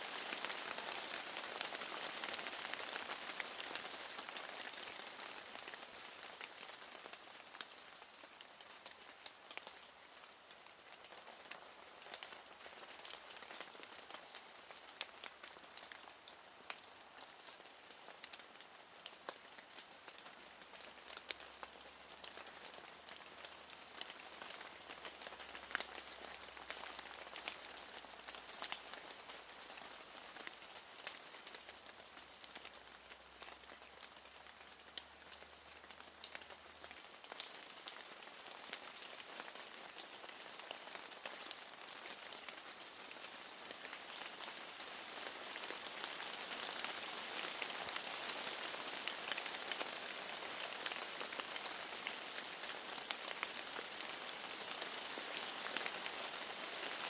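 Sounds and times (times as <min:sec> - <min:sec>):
soft steady rain: 0:00.0 - 0:57.0.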